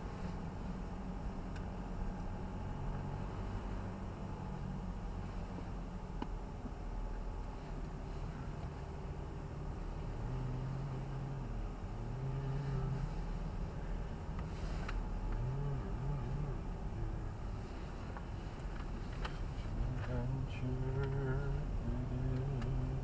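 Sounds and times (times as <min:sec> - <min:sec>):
car engine and road rumble: 0:00.0 - 0:23.0
low droning tone: 0:00.0 - 0:23.0.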